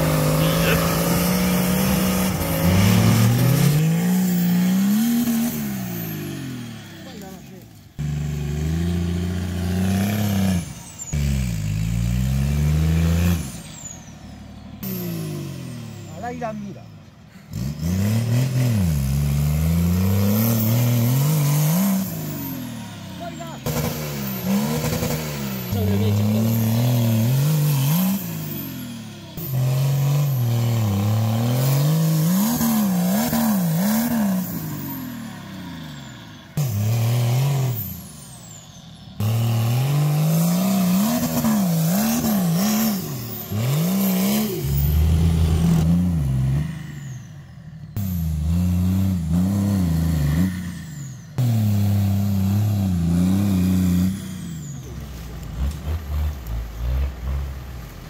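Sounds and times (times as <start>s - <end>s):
buggy engine revving hard: 0.0s - 58.0s.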